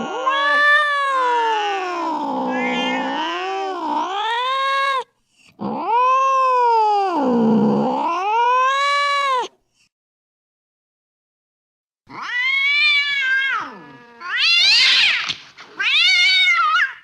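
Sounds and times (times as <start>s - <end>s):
cat yowling: 0.0s - 9.5s, 12.1s - 17.0s.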